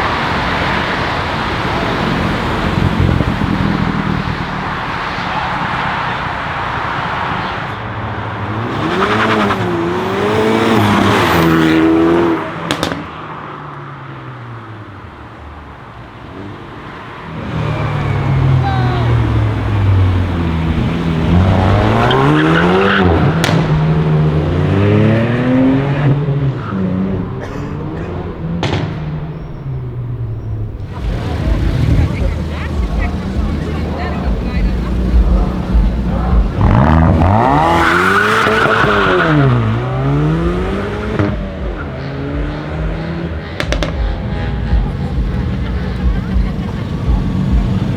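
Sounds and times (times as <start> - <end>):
exhaust pops: 0.0 - 13.9, 17.4 - 47.9
car engine accelerating hard: 0.0 - 47.9.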